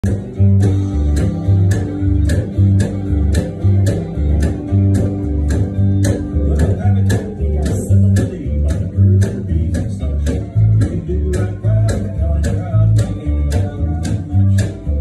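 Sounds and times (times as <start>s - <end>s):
guitar accompaniment: 0.0s - 15.0s
plucked upright bass: 0.0s - 15.0s
steady sharp clicks: 0.0s - 15.0s.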